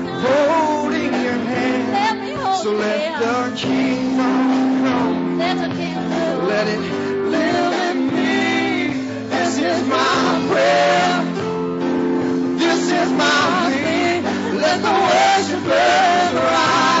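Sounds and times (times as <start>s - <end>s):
held instrumental chords: 0.0s - 17.0s
person singing gospel song: 0.0s - 17.0s.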